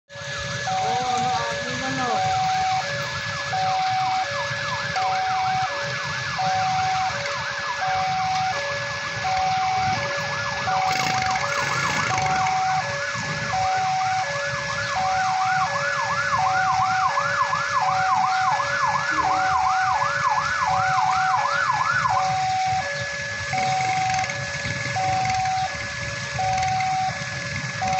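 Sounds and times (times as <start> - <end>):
emergency siren wailing: 0.1 - 27.9
traffic on wet road: 0.1 - 27.9
two-tone crossing alarm: 0.1 - 27.9.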